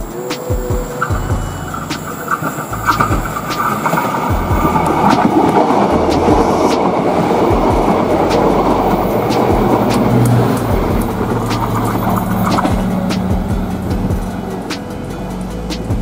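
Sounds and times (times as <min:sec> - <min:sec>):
train running gear rumble: 0:00.0 - 0:16.0
wheels clacking over rail joints: 0:00.0 - 0:16.0.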